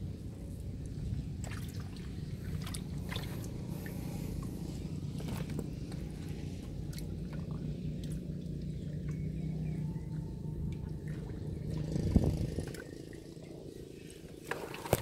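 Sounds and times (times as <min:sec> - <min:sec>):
steady low hum: 0:00.0 - 0:15.0
water drips and splashes: 0:00.7 - 0:15.0
hand sloshing through muddy water: 0:01.4 - 0:13.4, 0:14.0 - 0:15.0.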